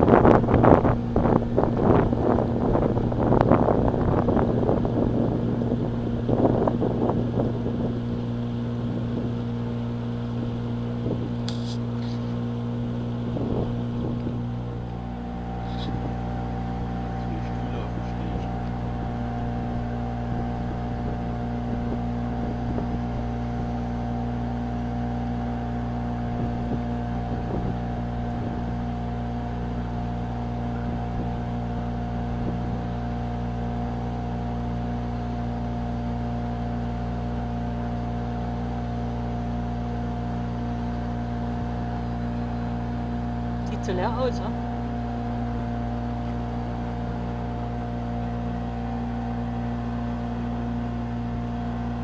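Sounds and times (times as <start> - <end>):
boat engine droning: 0.0 - 52.0.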